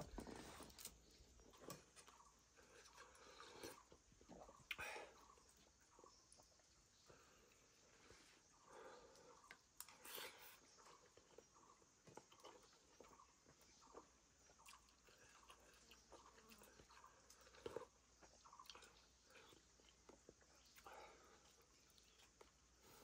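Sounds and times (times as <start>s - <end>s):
faint chewing with crunches: 0.0s - 23.0s.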